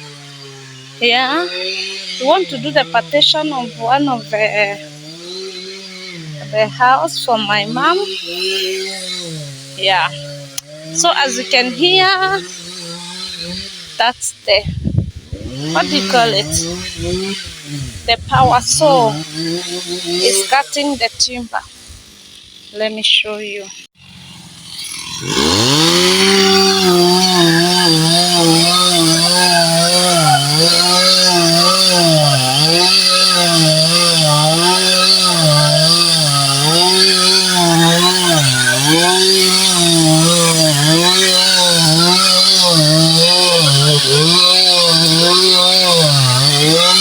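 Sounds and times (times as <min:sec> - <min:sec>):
chainsaw cutting timber: 0:00.0 - 0:47.0.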